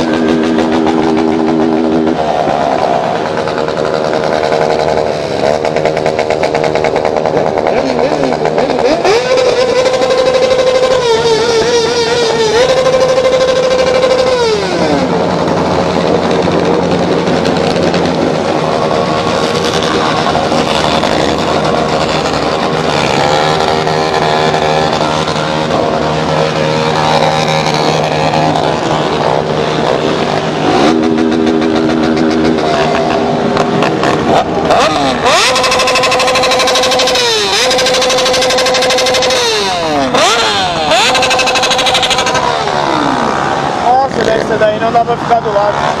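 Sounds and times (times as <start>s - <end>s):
motorcycle engines revving: 0.0s - 46.0s.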